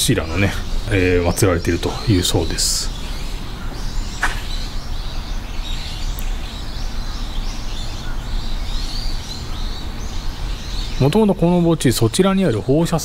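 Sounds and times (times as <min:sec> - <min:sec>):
steady low rumble: 0:00.0 - 0:12.8
birds chirping: 0:00.0 - 0:13.0.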